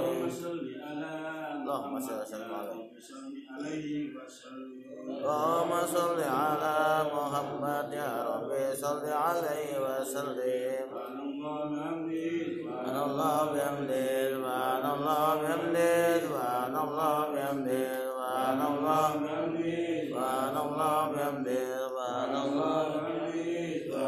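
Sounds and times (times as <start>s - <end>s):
men chanting devotional recitation: 0.0s - 24.0s.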